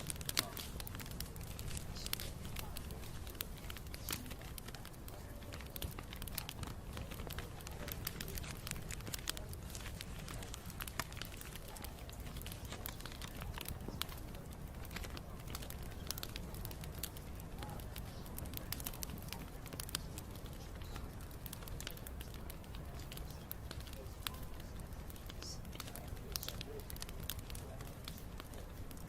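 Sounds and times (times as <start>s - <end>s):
low rumble of burning fire: 0.0s - 29.0s
wood fire crackling: 0.0s - 29.0s.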